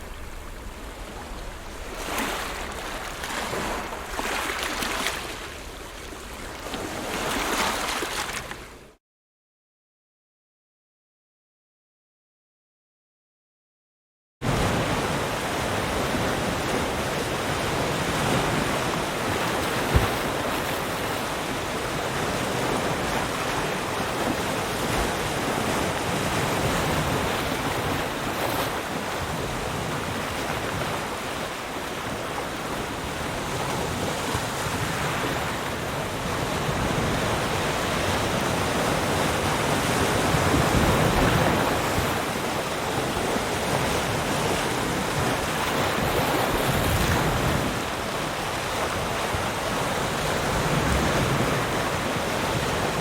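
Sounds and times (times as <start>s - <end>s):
waves breaking: 0.0s - 9.0s, 14.4s - 53.0s
wind: 0.0s - 9.0s, 14.4s - 53.0s.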